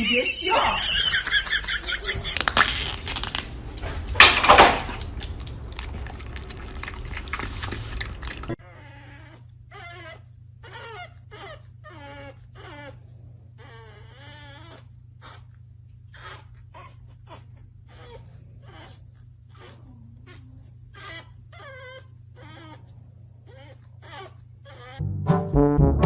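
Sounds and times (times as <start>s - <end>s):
dog whining: 2.4s - 25.0s.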